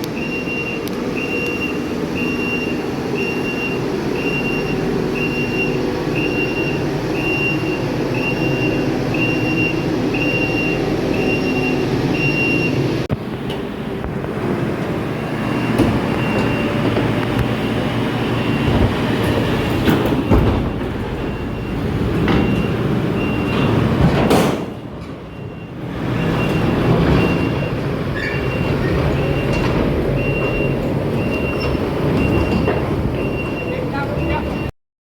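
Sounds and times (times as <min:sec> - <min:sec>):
reversing alarm beeping: 0:00.0 - 0:13.0, 0:15.0 - 0:24.1, 0:25.2 - 0:34.7
heavy machinery engine running: 0:00.0 - 0:34.7.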